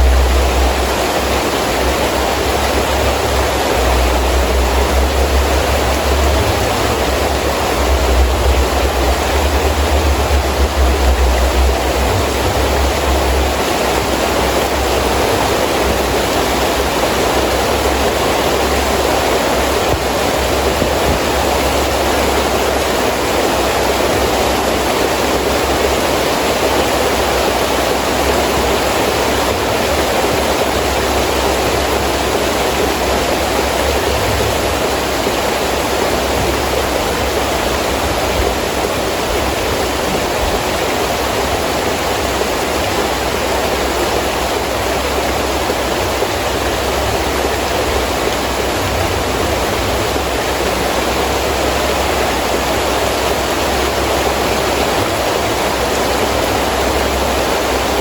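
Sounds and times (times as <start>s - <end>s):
heavy rain pouring: 0.0s - 58.0s
wind rumbling: 0.0s - 58.0s.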